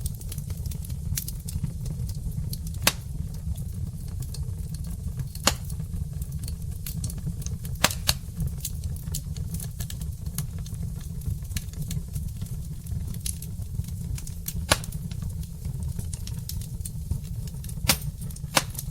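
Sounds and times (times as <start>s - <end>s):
low rumble of fire: 0.0s - 18.9s
wood fire crackling: 0.0s - 18.9s.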